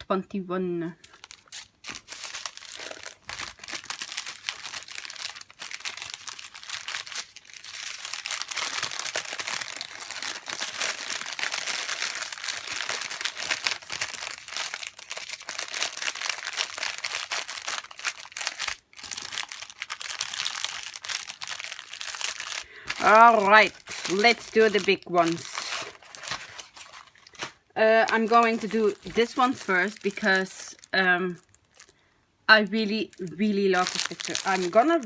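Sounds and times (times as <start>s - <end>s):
plastic packaging crinkling: 1.0s - 35.0s.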